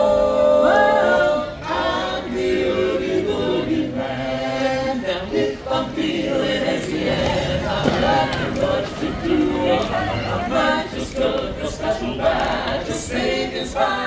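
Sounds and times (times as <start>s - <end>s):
men singing in close harmony: 0.0s - 14.0s.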